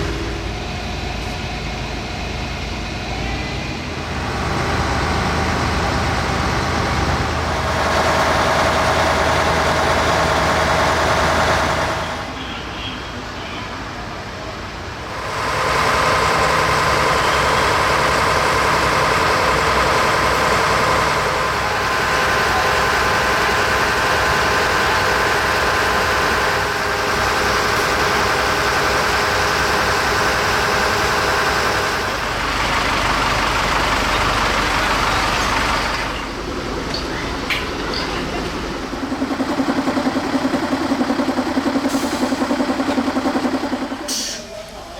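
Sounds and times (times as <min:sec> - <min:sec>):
fire engine motor running: 0:00.0 - 0:44.9.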